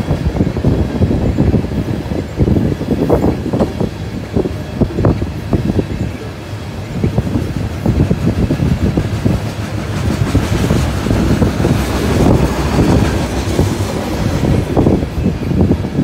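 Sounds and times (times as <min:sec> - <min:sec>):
train cars knocking: 0:00.0 - 0:16.0
train wheels rumbling on rails: 0:00.0 - 0:16.0.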